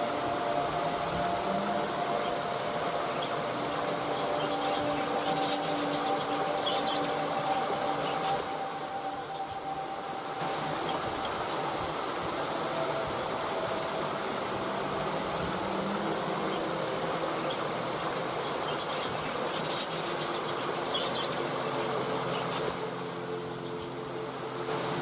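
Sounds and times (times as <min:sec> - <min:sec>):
soft held music tones: 0:00.0 - 0:25.0
waterfall rushing: 0:00.0 - 0:25.0.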